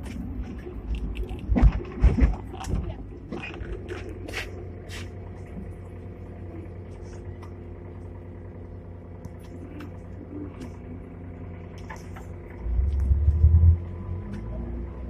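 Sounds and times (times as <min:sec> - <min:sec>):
steady low hum: 0:00.0 - 0:15.0
tram clunks and rattles: 0:00.0 - 0:15.0
tram slowing and stopping: 0:00.0 - 0:15.0.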